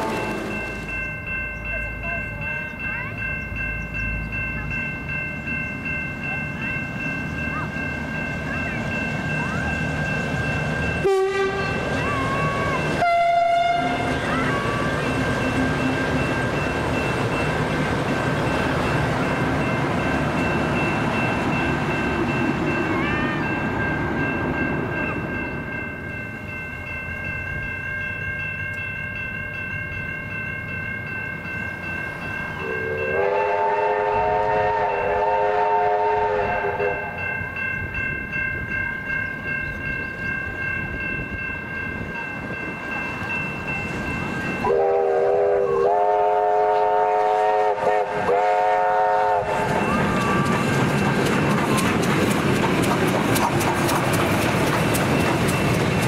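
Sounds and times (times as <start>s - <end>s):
steam locomotive chime whistle: 0.0s - 24.4s, 26.4s - 41.4s, 42.5s - 51.3s
train wheels rolling: 0.0s - 29.5s, 37.7s - 56.0s
level-crossing warning bell: 0.0s - 56.0s.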